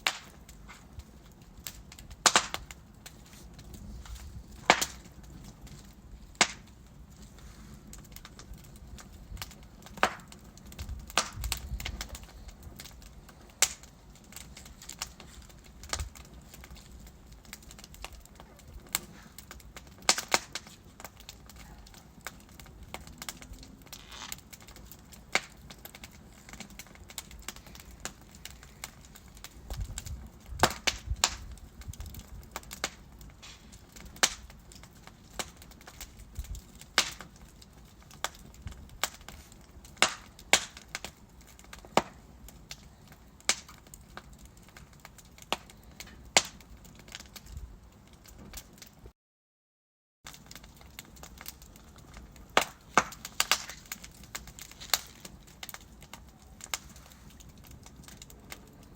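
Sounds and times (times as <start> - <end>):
logs crackling in fireplace: 0.0 - 49.1, 50.3 - 58.9.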